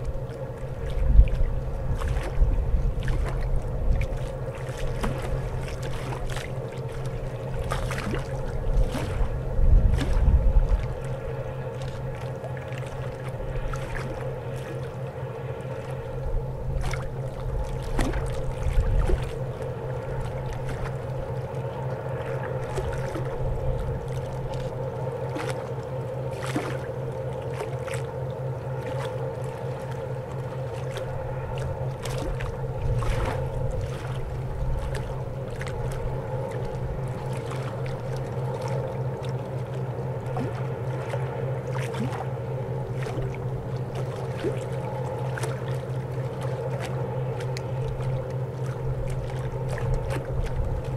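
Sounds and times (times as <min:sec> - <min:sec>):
low rumbles: 0:00.0 - 0:50.9.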